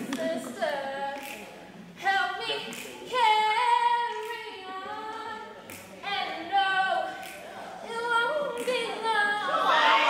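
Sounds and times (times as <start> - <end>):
woman singing unaccompanied: 0.0 - 1.4, 2.0 - 10.0.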